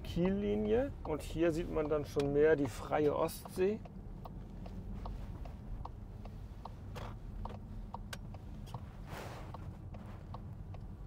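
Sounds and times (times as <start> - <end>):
car road noise rumble: 0.0 - 11.0
light ticks: 0.0 - 11.0.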